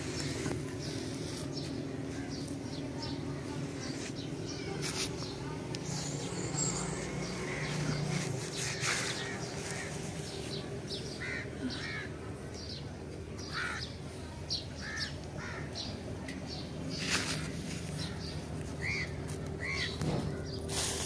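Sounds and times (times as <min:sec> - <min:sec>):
birds harsh chirps: 0:00.0 - 0:21.0.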